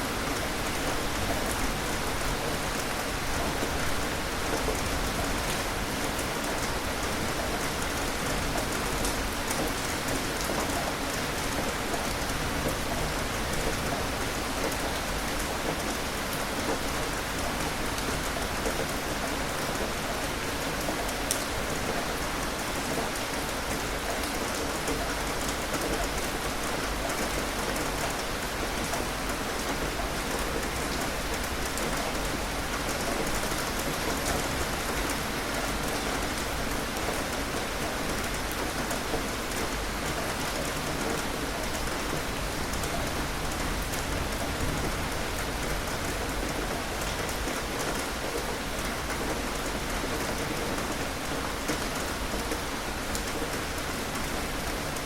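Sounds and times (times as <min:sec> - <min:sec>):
steady rain pattering: 0:00.0 - 0:55.0.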